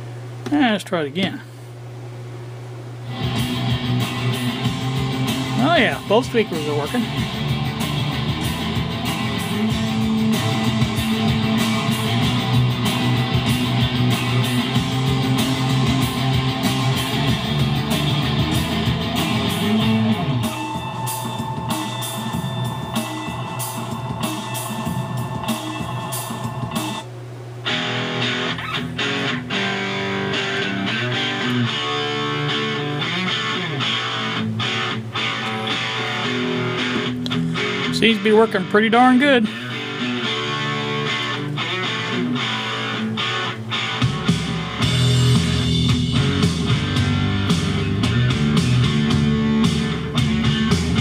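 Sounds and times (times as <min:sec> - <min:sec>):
guitar music from speakers: 0:03.0 - 0:51.0.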